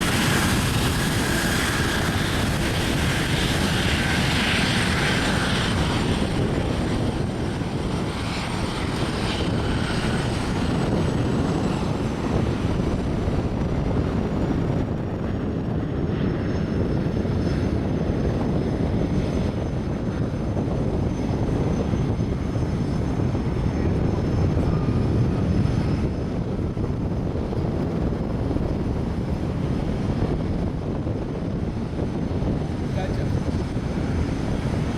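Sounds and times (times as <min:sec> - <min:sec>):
high jet whine: 0:00.0 - 0:34.9
jet engine rumble: 0:00.0 - 0:34.9.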